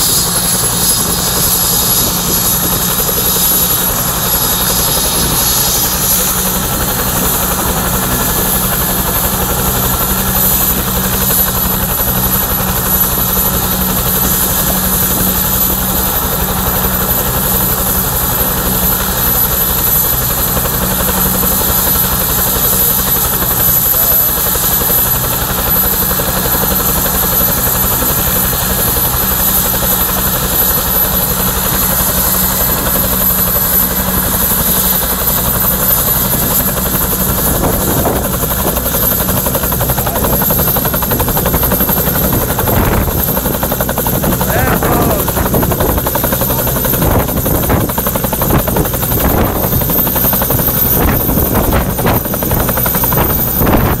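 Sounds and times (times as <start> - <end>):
helicopter rotor beat: 0.0 - 54.0
helicopter turbine whine: 0.0 - 54.0.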